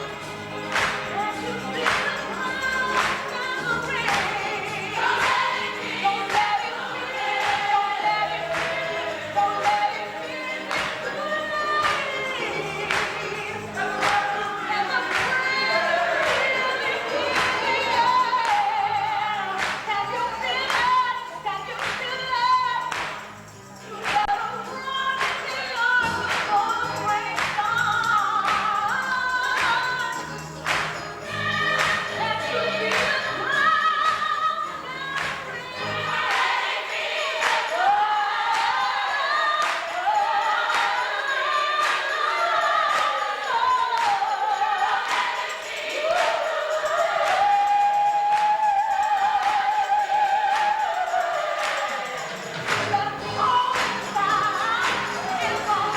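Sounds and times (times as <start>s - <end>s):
percussion hits: 0.0s - 34.4s, 35.1s - 55.9s
gospel choir singing: 0.0s - 55.9s.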